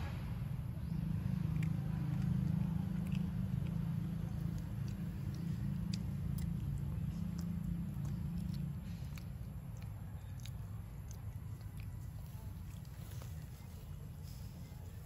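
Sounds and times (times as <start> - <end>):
monkey sucking and licking fingers: 1.4 - 15.0.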